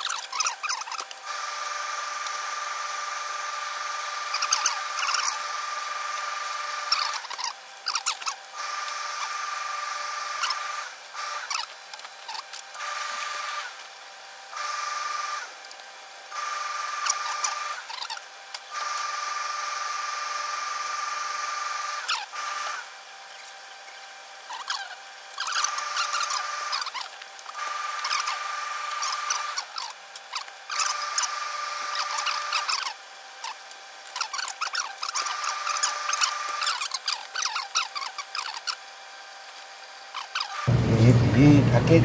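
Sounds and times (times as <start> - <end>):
machine hiss with high whine: 0.0 - 42.0.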